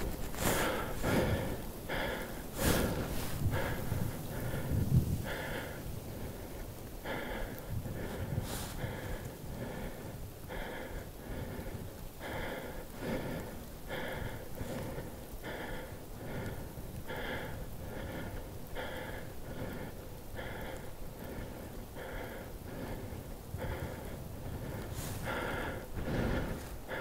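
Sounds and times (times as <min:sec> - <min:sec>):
person breathing hard: 0:00.0 - 0:27.0.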